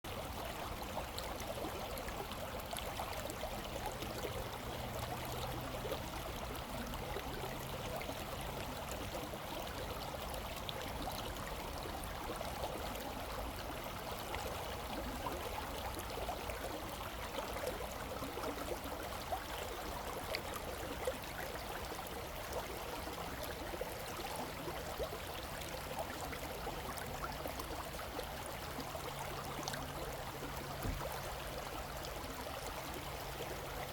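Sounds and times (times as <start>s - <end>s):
creek water babbling: 0.1s - 33.9s.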